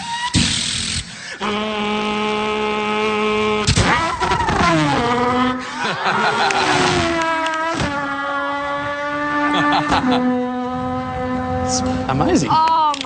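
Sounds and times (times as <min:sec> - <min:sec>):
man imitating race car engine: 0:01.4 - 0:12.6.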